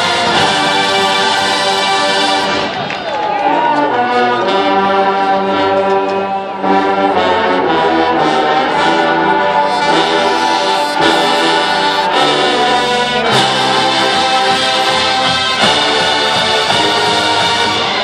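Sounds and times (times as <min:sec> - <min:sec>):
marching band brass chords: 0:00.0 - 0:18.0.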